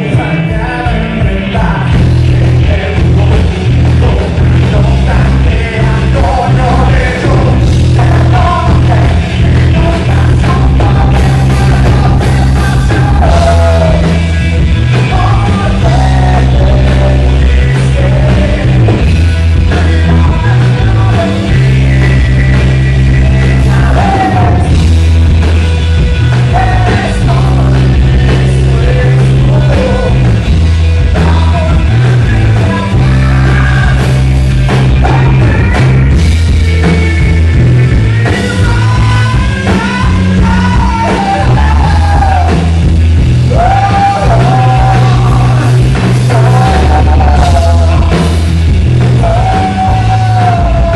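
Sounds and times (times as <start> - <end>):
male singer: 0.0 - 24.9, 26.0 - 50.9
live rock band playing: 0.0 - 50.9.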